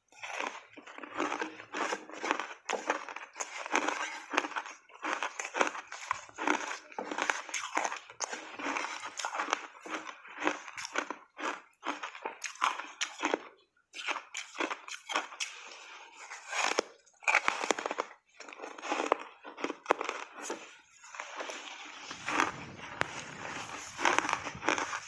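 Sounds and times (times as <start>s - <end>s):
crunching and chewing ice: 0.0s - 25.0s.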